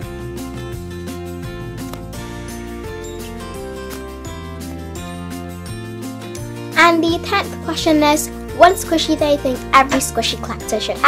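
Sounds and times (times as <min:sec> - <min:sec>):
light instrumental music: 0:00.0 - 0:11.0.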